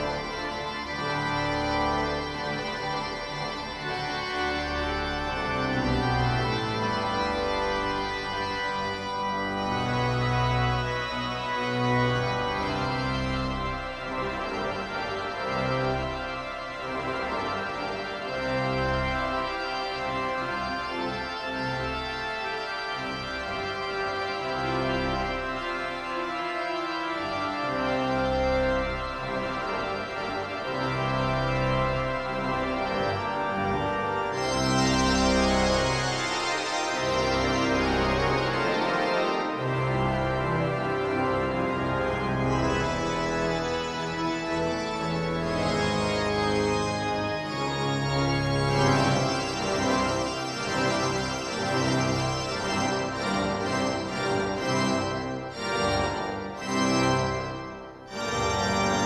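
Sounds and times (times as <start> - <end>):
church pipe organ chords: 0.0 - 59.0.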